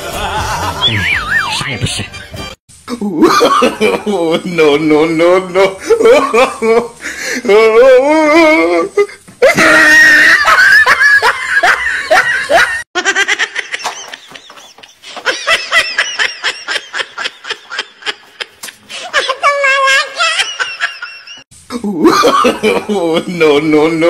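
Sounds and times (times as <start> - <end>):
people laughing: 0.0 - 2.4, 3.1 - 7.6, 9.4 - 24.0.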